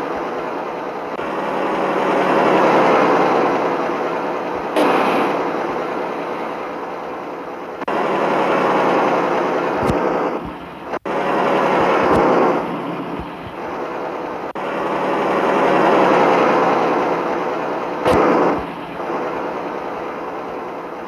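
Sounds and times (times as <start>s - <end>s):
diesel truck engine running: 0.0s - 21.0s
road noise: 0.0s - 21.0s.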